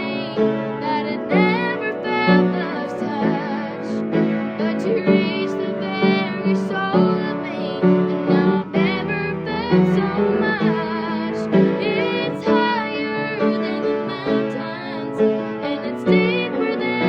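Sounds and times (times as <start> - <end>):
young female voices singing: 0.0 - 4.0, 4.6 - 17.0
instrumental accompaniment: 0.0 - 17.0.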